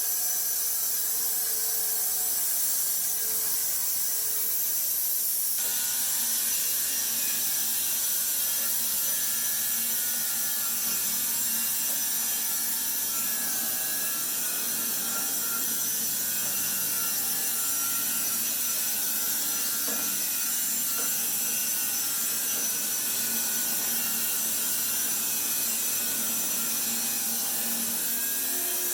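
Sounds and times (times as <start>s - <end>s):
power saw cutting timber: 0.0s - 28.9s.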